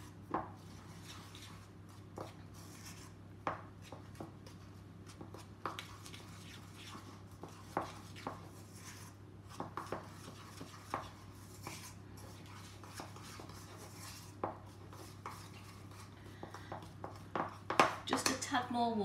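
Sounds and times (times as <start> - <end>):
spoon stirring thick icing: 0.0 - 18.4.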